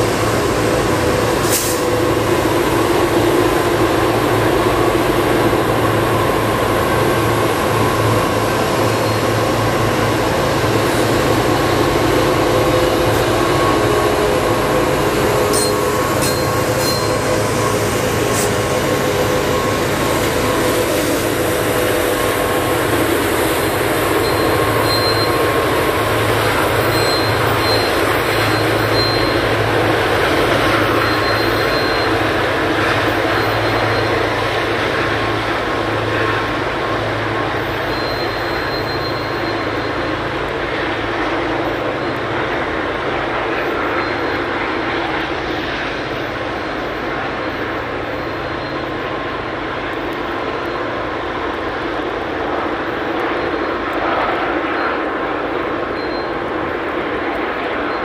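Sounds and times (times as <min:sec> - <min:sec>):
diesel locomotives at full throttle: 0:00.0 - 0:58.0.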